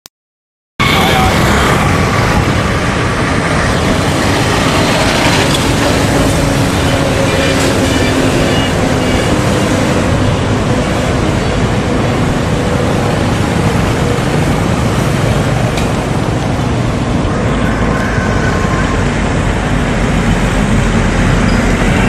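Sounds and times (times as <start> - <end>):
voices: 0.8 - 20.0
motorbikes and vehicles running: 0.8 - 22.0.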